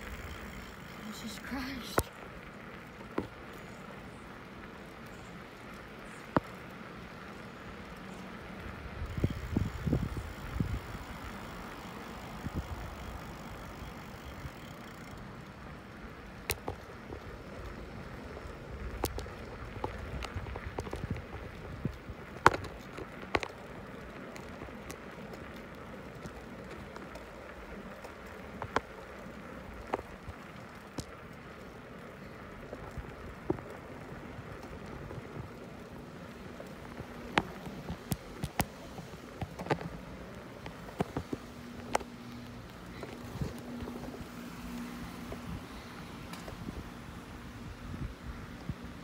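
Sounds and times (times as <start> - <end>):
bicycle tyre and air noise: 0.0 - 49.0.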